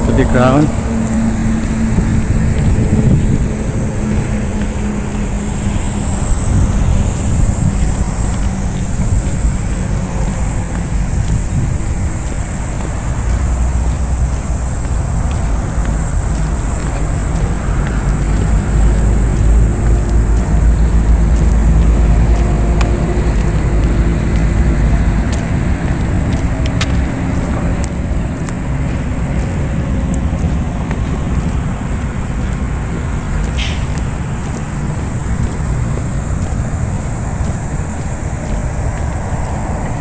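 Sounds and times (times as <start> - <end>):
low outdoor rumble: 0.0 - 40.0
faint clicks: 7.6 - 40.0.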